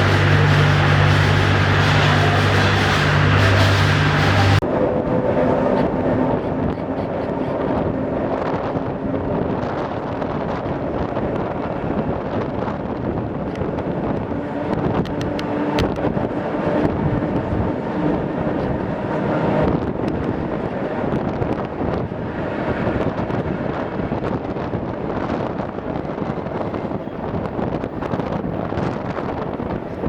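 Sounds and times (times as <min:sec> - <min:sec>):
electric train running: 0:00.0 - 0:30.0.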